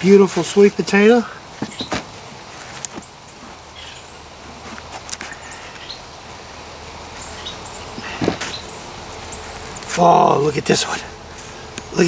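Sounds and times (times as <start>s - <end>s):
hands rustling through soil: 0.0s - 12.0s.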